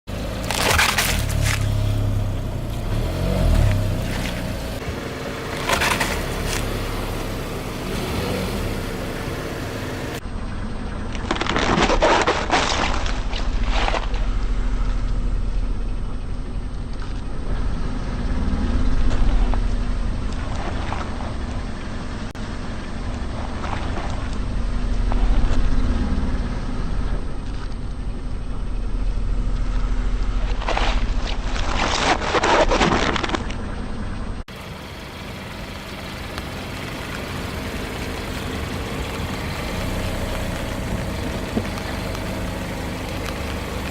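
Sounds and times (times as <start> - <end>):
low car rumble: 0.0 - 43.9.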